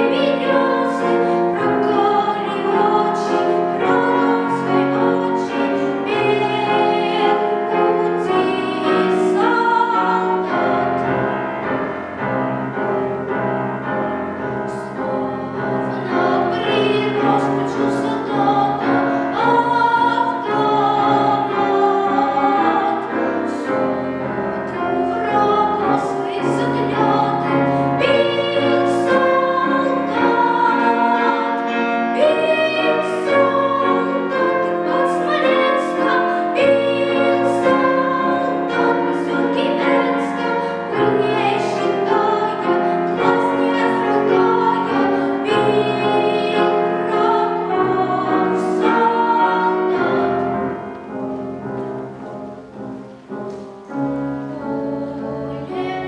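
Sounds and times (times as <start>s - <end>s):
child singing with vibrato: 0.0s - 11.2s, 14.7s - 50.5s
piano accompaniment: 0.0s - 56.0s.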